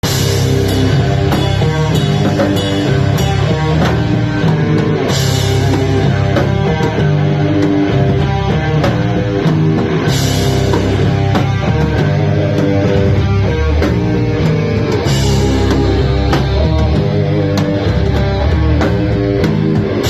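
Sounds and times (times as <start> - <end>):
loud rock music: 0.0 - 20.0.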